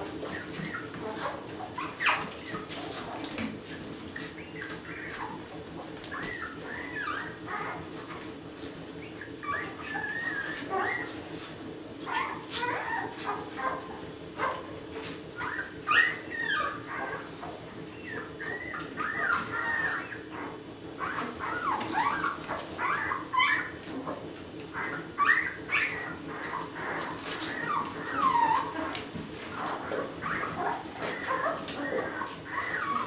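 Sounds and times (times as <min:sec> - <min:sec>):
puppies whimpering and squealing: 0:00.0 - 0:33.0.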